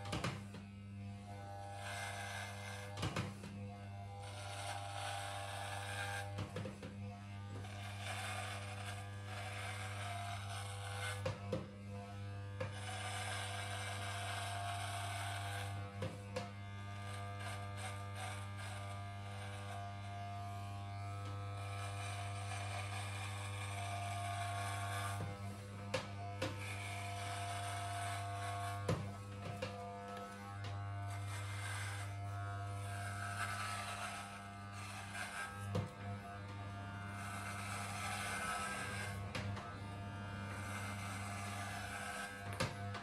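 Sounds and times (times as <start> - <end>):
electric hair clipper humming: 0.0 - 43.0.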